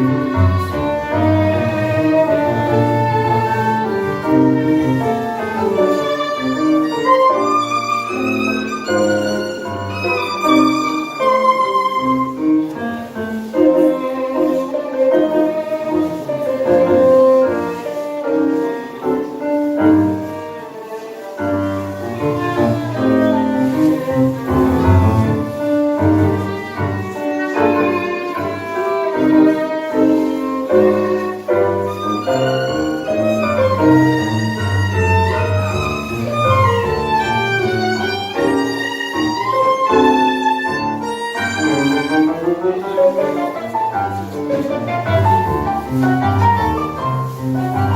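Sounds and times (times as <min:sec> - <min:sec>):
piano: 0:00.0 - 0:47.9
violin melody: 0:00.0 - 0:47.9.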